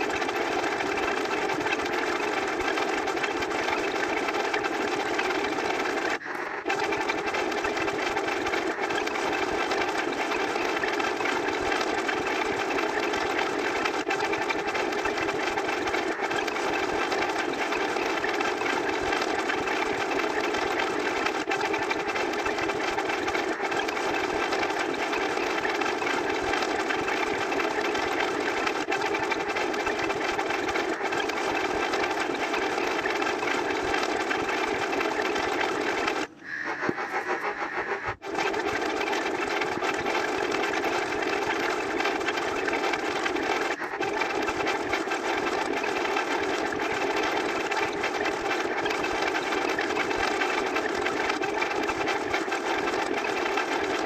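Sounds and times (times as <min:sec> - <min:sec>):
motor running: 0:00.0 - 0:54.0.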